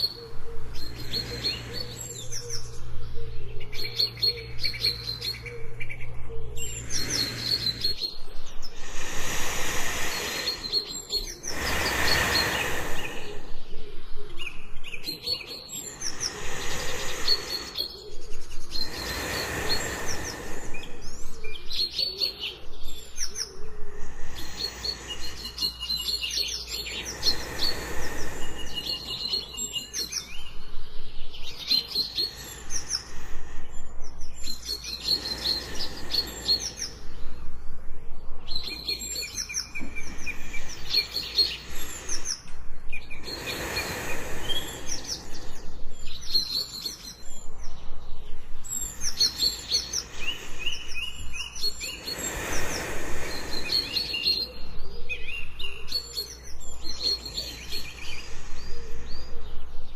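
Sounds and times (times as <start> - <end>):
person breathing in sleep: 0.0 - 2.7, 6.6 - 59.9
birds chirping and whistling: 0.0 - 59.9.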